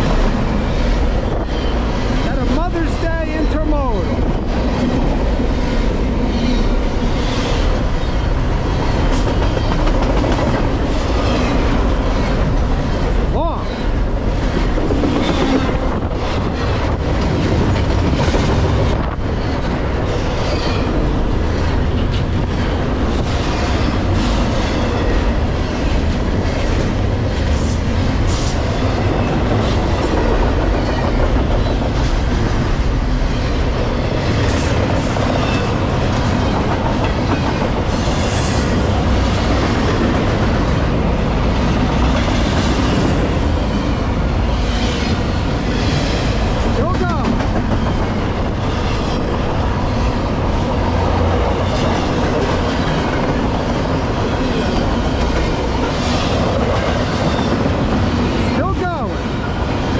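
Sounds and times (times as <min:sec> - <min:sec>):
freight train rumbling past: 0:00.0 - 0:59.9
wheels clacking over rail joints: 0:04.2 - 0:58.6.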